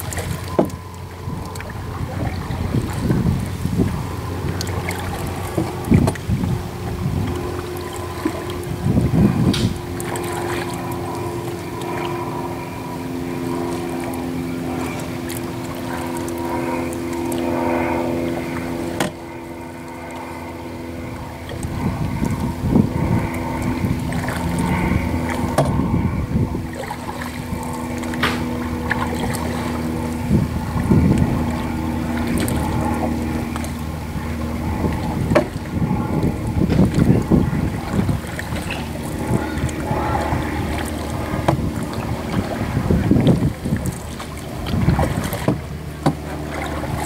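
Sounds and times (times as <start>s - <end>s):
motor drone: 0.0s - 47.0s
paddle blades dipping and splashing: 0.0s - 47.0s
wind rumble on microphone: 0.0s - 47.0s.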